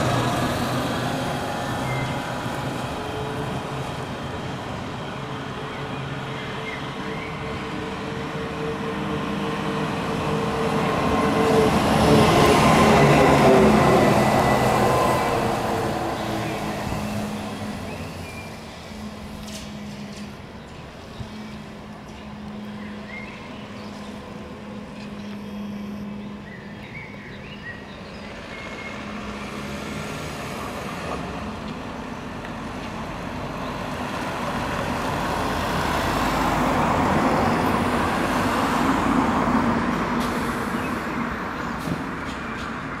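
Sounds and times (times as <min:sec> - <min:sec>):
trolleybus motor and tyre noise: 0:00.0 - 0:43.0.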